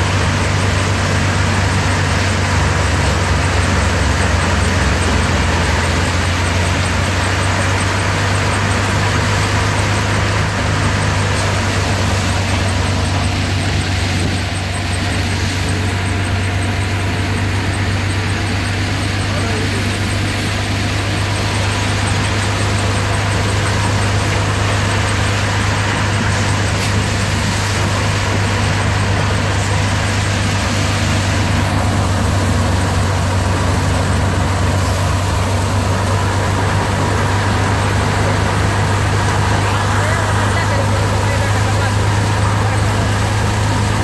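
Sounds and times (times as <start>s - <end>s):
thresher running: 0.0s - 44.0s.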